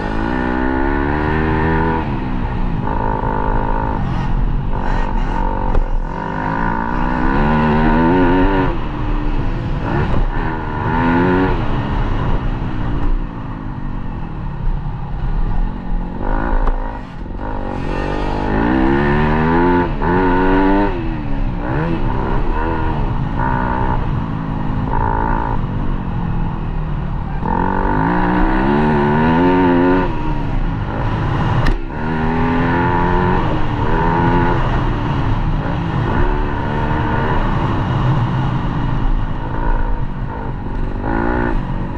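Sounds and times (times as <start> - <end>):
dirt bike engine revving: 0.0 - 12.3, 16.0 - 24.1, 27.3 - 38.6, 39.4 - 41.6.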